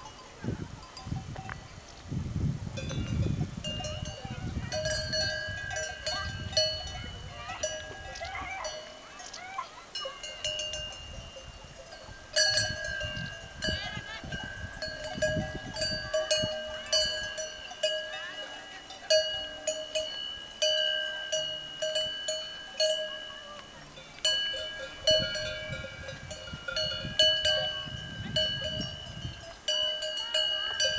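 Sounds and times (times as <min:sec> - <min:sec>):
cowbells clanking: 0:00.0 - 0:02.0, 0:02.7 - 0:30.9.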